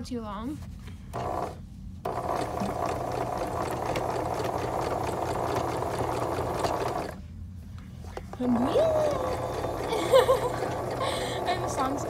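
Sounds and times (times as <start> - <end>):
sewing machine stitching: 1.1 - 7.2, 8.3 - 12.0.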